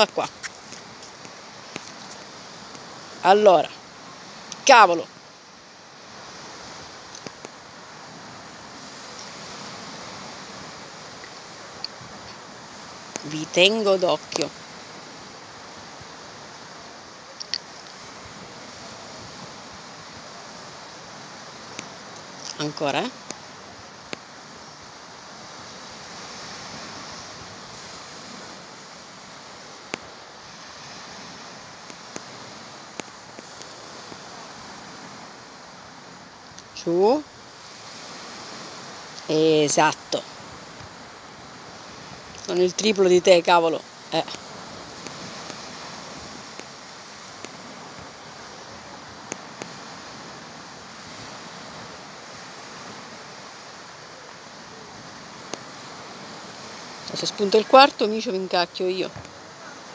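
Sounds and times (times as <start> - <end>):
distant sea surf: 0.0 - 59.9
wind: 0.0 - 59.9.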